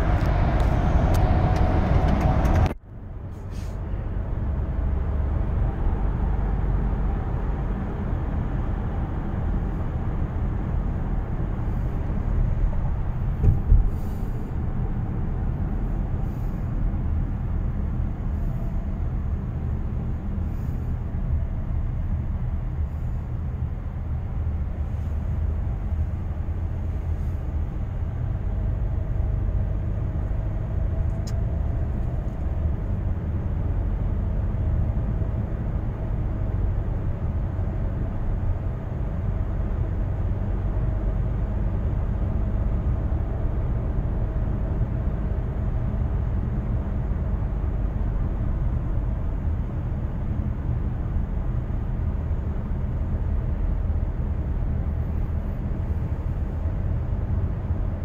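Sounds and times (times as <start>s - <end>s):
minivan cabin driving rumble: 0.0s - 58.0s.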